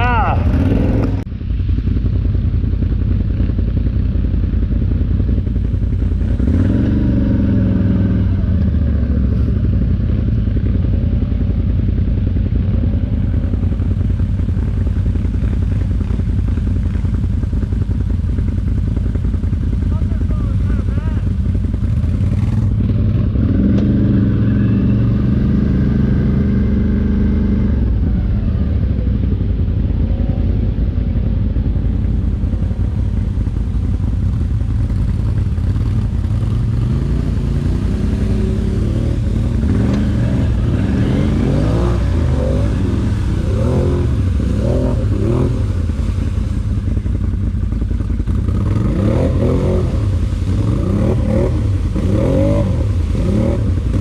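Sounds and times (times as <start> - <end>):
atv engine revving: 0.0 - 1.3, 2.1 - 54.0.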